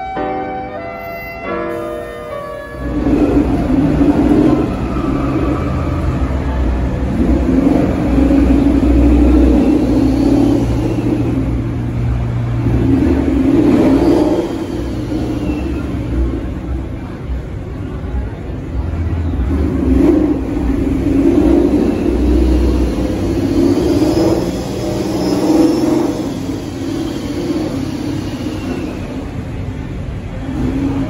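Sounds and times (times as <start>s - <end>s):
car engine revving: 2.8s - 17.4s, 18.6s - 29.6s.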